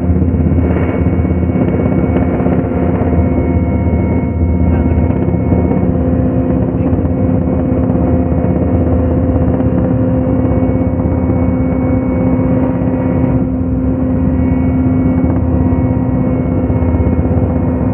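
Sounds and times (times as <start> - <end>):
drone rotors humming: 0.0 - 17.9.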